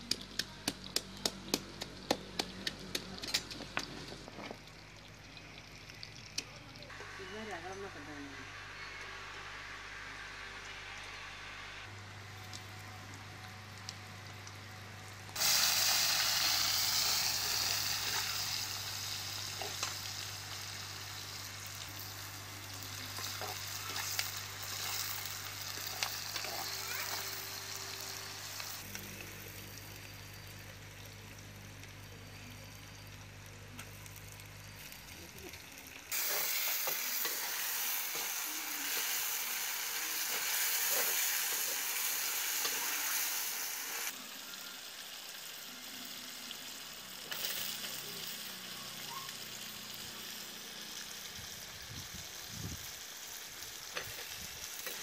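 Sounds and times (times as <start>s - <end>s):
food sizzling in hot oil: 0.1s - 55.0s.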